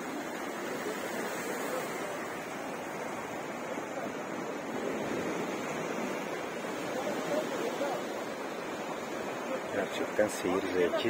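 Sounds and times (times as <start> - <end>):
surf washing against rocky shore: 0.0 - 11.0.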